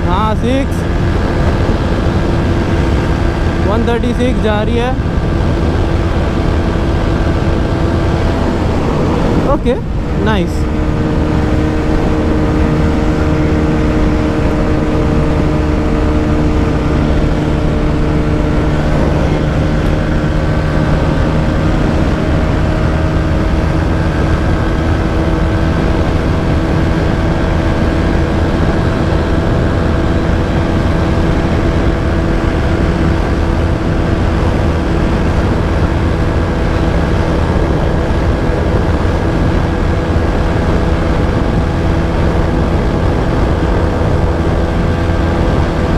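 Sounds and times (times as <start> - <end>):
heavy wind rush: 0.0 - 45.9
motorcycle engine at full throttle: 0.0 - 45.9.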